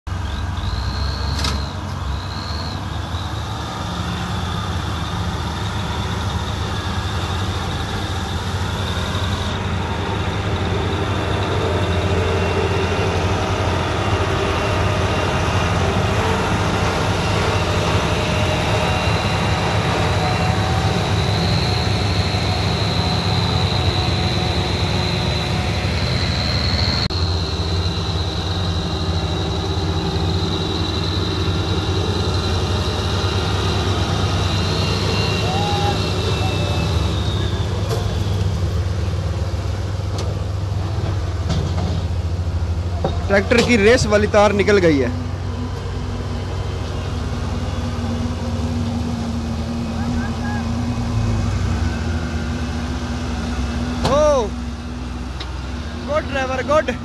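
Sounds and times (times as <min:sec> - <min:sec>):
tractor engines under heavy load: 0:00.1 - 0:57.0.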